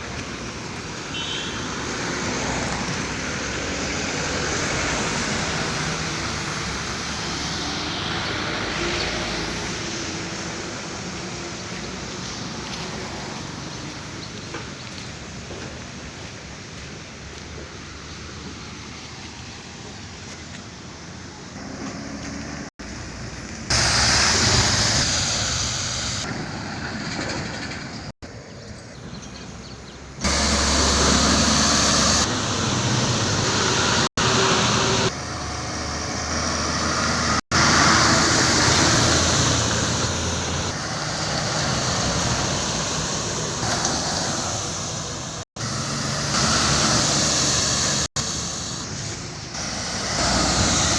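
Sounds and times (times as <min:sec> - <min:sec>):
road vehicles running: 0:00.0 - 0:50.9.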